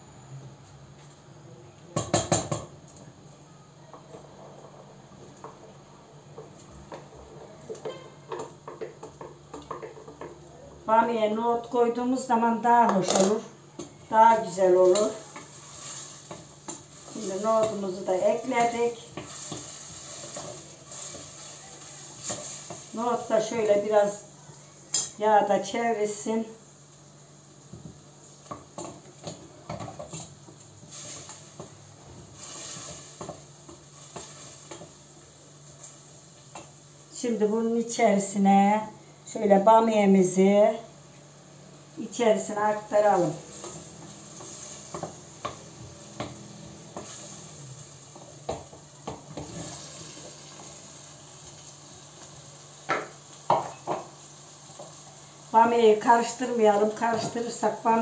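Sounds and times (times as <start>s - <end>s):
frying sizzle: 3.9s - 58.0s.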